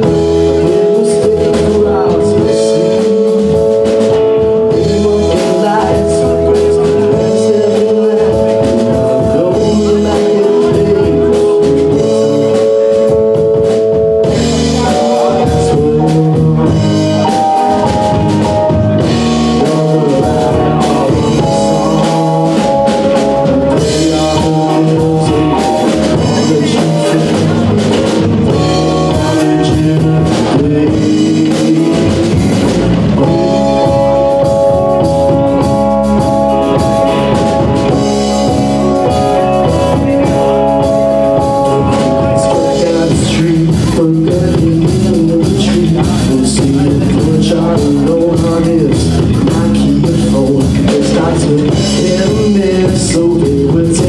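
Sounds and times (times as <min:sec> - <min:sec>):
bass guitar: 0:00.0 - 0:54.0
drum kit: 0:00.0 - 0:54.0
electric guitar: 0:00.0 - 0:54.0
held keyboard chords: 0:00.0 - 0:54.0.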